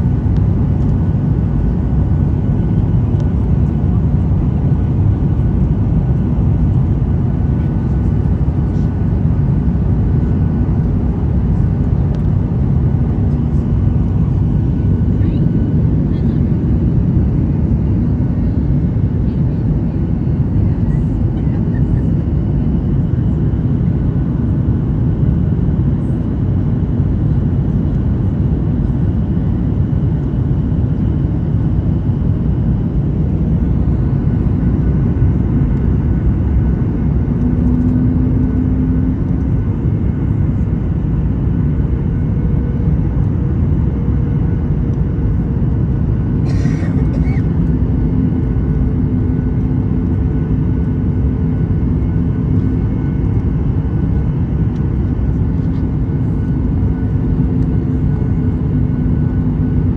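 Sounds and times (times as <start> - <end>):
jet engine roar in cabin: 0.0 - 59.9.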